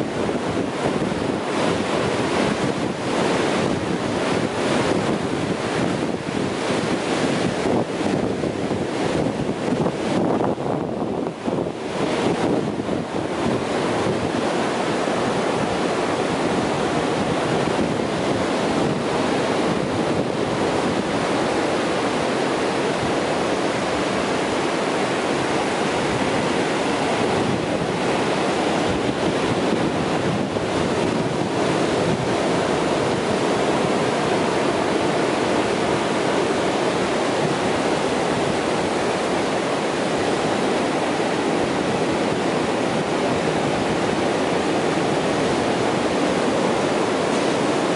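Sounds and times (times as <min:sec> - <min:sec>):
ocean surf breaking: 0:00.0 - 0:47.9.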